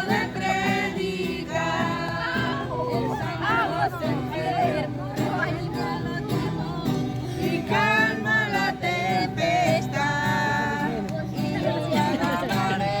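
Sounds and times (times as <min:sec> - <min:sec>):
strummed guitar: 0:00.0 - 0:13.0.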